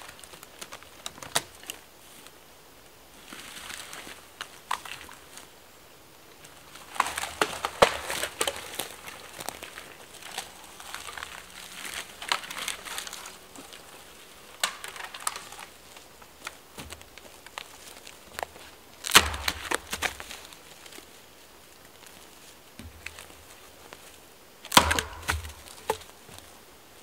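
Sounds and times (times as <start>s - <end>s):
twigs crackling and snapping: 0.0s - 2.4s, 3.2s - 5.5s, 6.4s - 27.0s
footsteps on dry forest floor: 3.2s - 5.5s, 6.4s - 26.6s.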